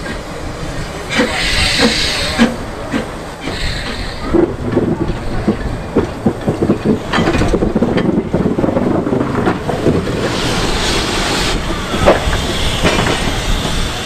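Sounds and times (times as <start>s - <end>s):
steam hissing: 0.0s - 14.0s
train wheels clicking over rail joints: 0.0s - 14.0s.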